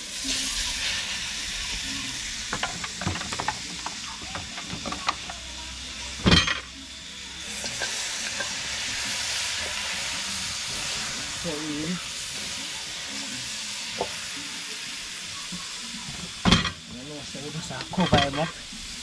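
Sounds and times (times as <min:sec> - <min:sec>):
food sizzling in a pot: 0:00.0 - 0:19.0.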